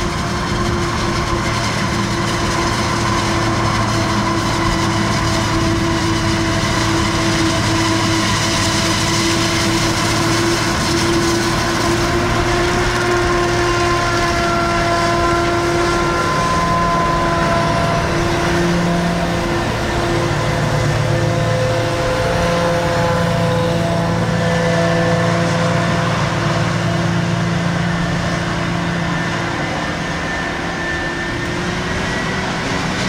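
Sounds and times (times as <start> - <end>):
harvester engine drone: 0.0 - 33.0
machine whining tones: 0.0 - 33.0
second lower engine note: 3.1 - 33.0.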